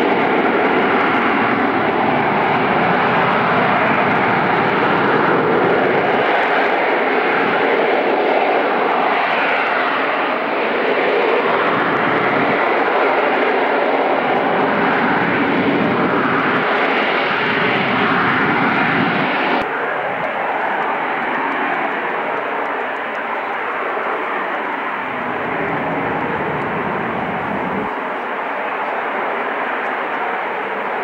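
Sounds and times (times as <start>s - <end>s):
jet engine roaring in hover: 0.0s - 31.0s.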